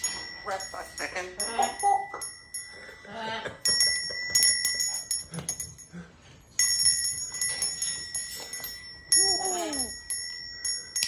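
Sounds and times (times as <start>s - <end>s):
metal bell clinking: 0.0s - 11.0s.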